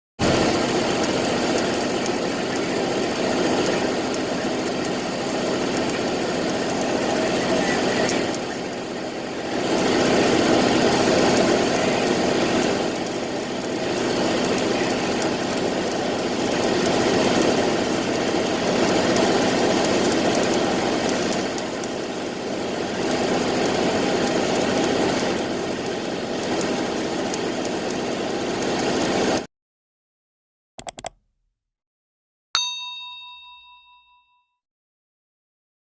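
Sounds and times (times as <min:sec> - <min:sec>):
arc welding crackling: 0:00.2 - 0:29.5.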